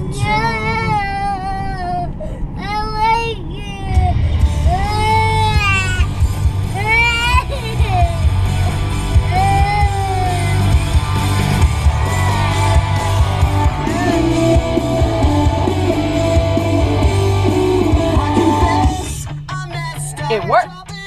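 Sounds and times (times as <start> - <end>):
rock song on car stereo: 3.9 - 21.0.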